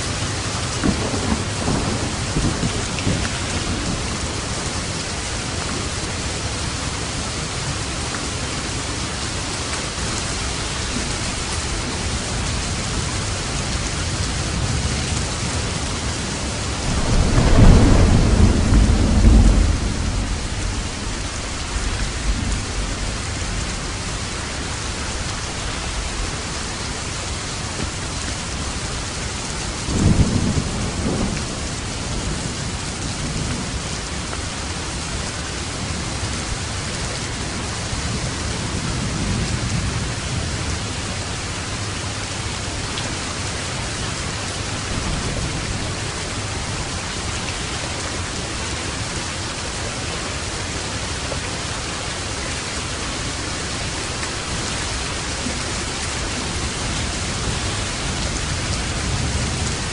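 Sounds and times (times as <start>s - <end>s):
thunder rumbling: 0.0s - 49.2s, 52.2s - 59.9s
heavy rain: 0.0s - 59.9s.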